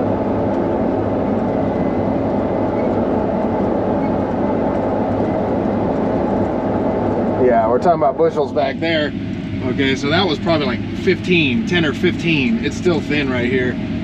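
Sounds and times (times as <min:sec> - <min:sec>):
combine harvester drone: 0:00.0 - 0:14.0.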